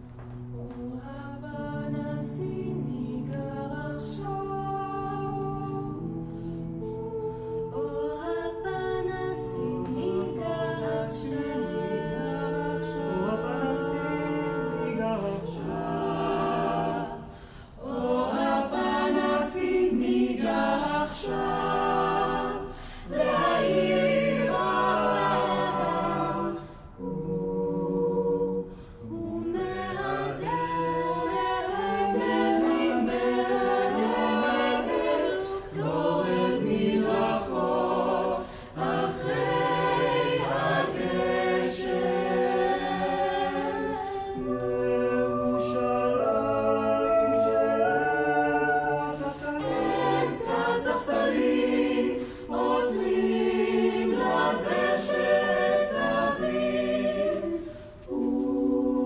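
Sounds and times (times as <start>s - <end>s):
a cappella ensemble singing: 0.0s - 59.0s.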